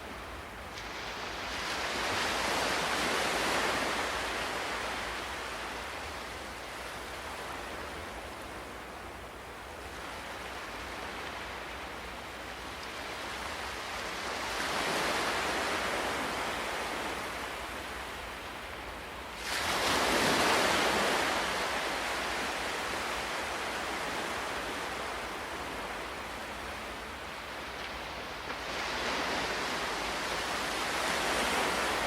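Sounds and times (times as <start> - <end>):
ocean waves breaking: 0.0 - 9.2, 12.6 - 32.0.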